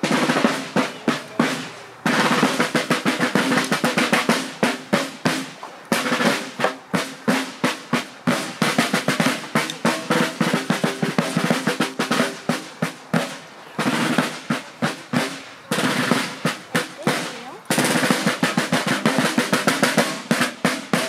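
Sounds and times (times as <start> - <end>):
snare drums playing marching cadence: 0.0 - 21.0.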